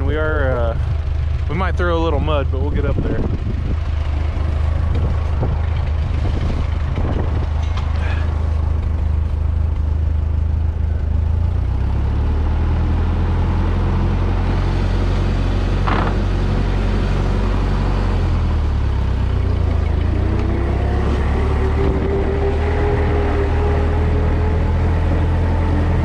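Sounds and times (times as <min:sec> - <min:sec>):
rising whine: 0:00.0 - 0:26.0
tractor engine running under load: 0:00.0 - 0:26.0.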